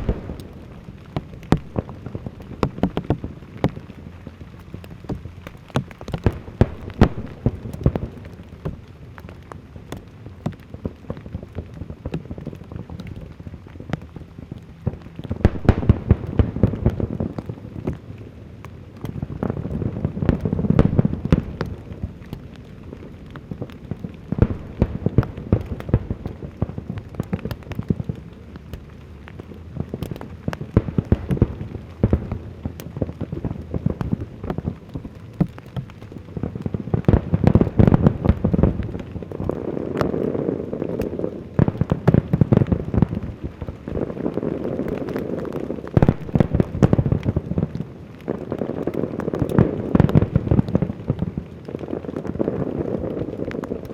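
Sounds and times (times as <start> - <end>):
fireworks crackling: 0.0 - 53.9.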